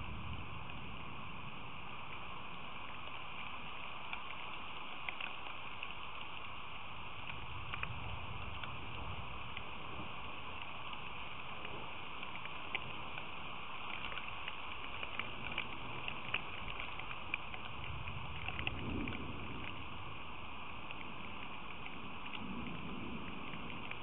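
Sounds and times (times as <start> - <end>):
sharp raindrop ticks: 0.0 - 24.0
steady rain: 0.0 - 24.0.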